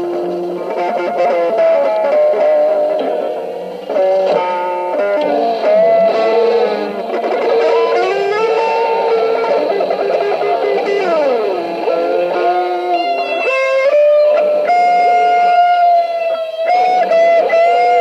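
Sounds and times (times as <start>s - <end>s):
electric guitar lead notes: 0.0s - 18.0s.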